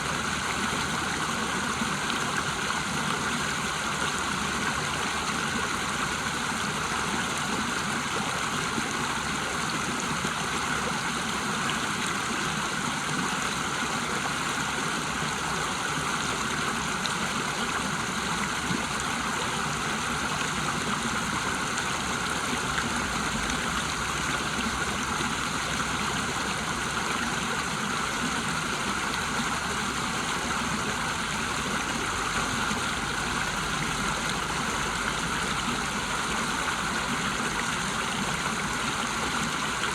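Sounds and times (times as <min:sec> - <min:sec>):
water rushing over waterfall: 0:00.1 - 0:39.9.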